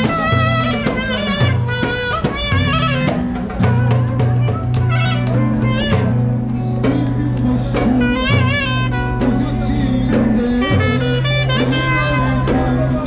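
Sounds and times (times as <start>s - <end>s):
drum beat: 0.0s - 13.0s
held bass notes: 0.0s - 13.0s
jazz lead melody: 0.0s - 13.0s.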